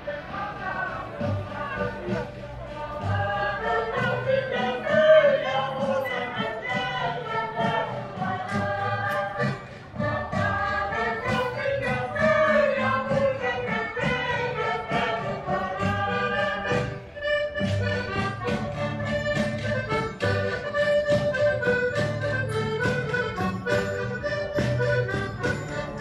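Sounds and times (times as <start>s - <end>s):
accordion folk music: 0.0s - 26.0s.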